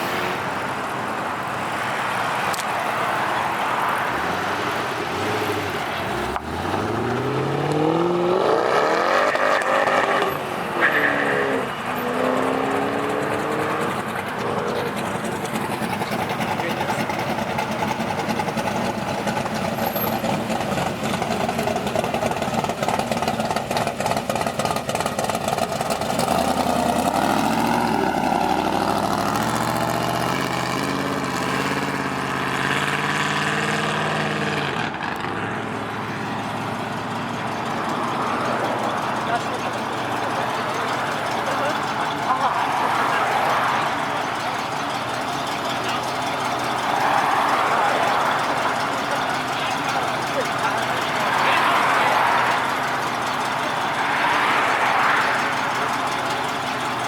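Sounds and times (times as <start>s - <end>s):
car engine revving: 0.0s - 57.0s
crowd noise: 0.0s - 57.0s.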